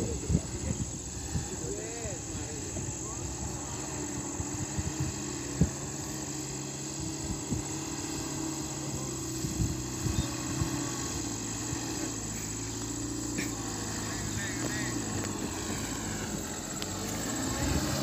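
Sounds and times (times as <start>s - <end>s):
truck diesel engine humming: 0.0s - 18.0s.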